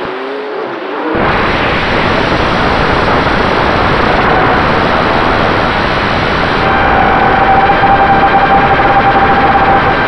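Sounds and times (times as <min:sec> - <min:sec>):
drone motors whining: 0:00.0 - 0:10.0
wind rush on microphone: 0:01.1 - 0:10.0.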